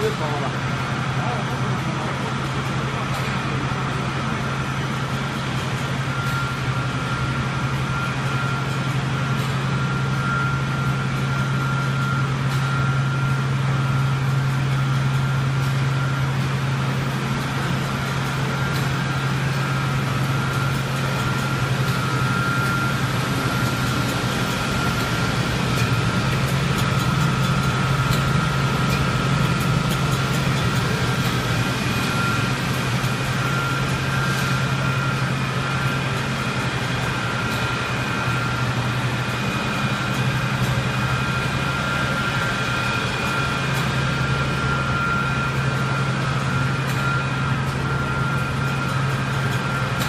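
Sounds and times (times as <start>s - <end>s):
machinery hum: 0.0s - 50.0s
thin steady whine: 0.0s - 50.0s.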